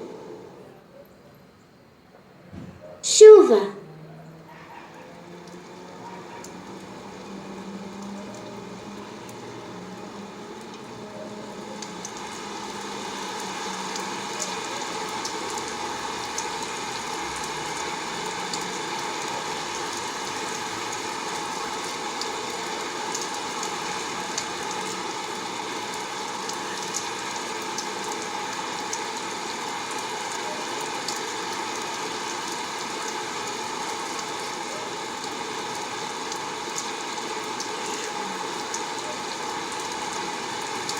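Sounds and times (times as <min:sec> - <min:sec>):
steady rain falling: 0:00.0 - 0:01.4, 0:03.0 - 0:40.9.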